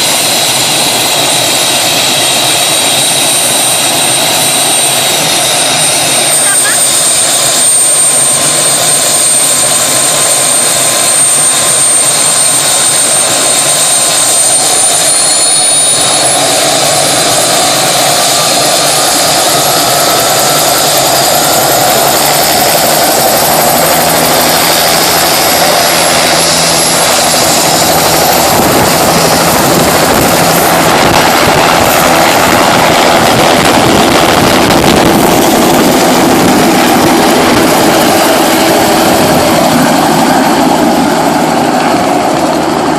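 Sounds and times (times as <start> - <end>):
helicopter running: 0.0 - 42.9
high turbine whine: 0.0 - 42.9.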